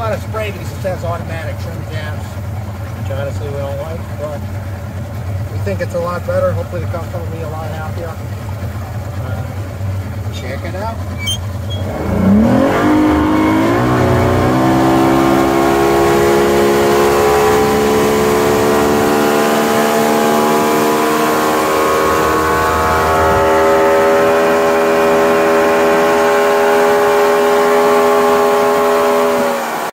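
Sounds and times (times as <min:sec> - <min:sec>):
outboard motor running at high speed: 0:00.0 - 0:29.9.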